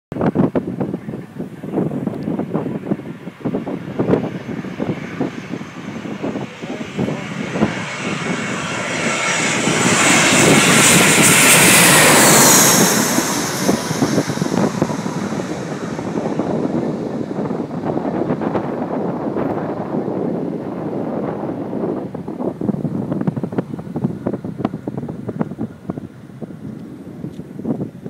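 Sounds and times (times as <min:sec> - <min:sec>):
wind buffeting microphone: 0:00.1 - 0:28.0
airplane engine with high whine: 0:00.2 - 0:28.0.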